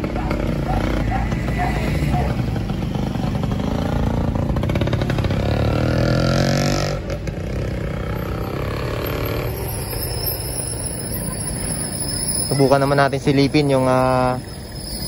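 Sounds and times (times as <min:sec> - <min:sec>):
street traffic noise: 0:00.0 - 0:15.0
vehicle engine accelerating: 0:00.0 - 0:15.0.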